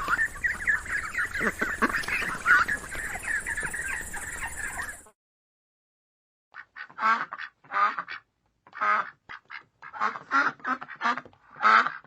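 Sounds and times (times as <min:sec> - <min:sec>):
ducks quacking: 0:00.0 - 0:05.1, 0:06.6 - 0:12.0.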